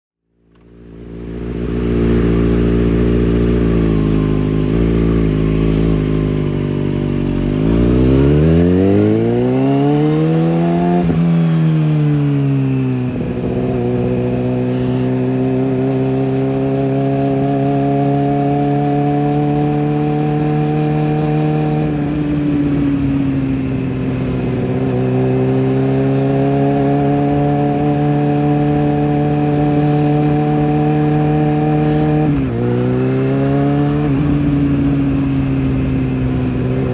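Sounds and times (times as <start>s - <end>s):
motorcycle engine revving: 0.4s - 36.9s.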